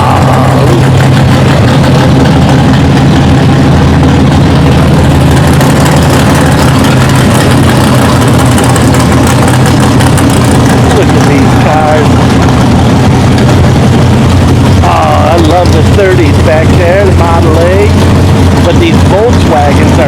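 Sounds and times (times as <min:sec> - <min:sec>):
car engines idling: 0:00.0 - 0:20.0.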